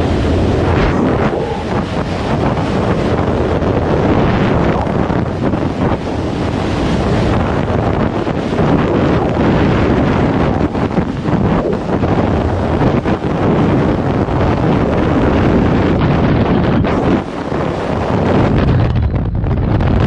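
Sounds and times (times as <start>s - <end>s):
freefall wind buffeting microphone: 0.0s - 20.0s.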